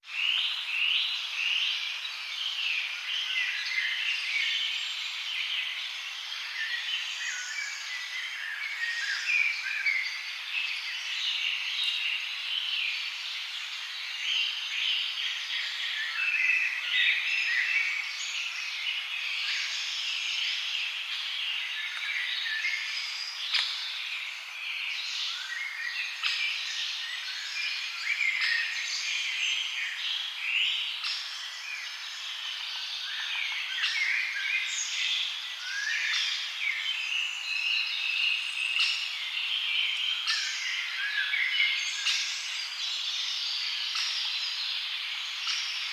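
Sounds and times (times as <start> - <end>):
forest birds chirping and singing: 0.0 - 45.9.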